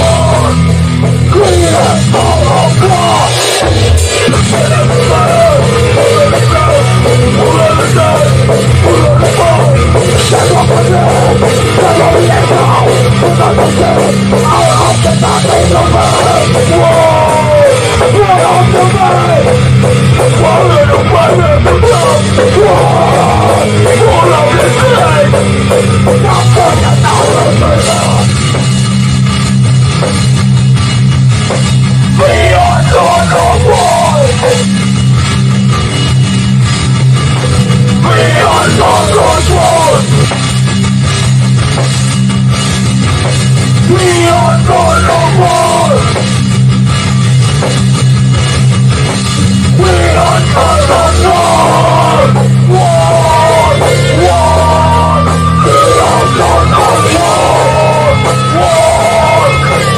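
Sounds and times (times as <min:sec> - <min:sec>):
bass guitar: 0:00.0 - 0:59.9
distorted electric guitars: 0:00.0 - 0:59.9
drum kit: 0:00.0 - 0:59.9.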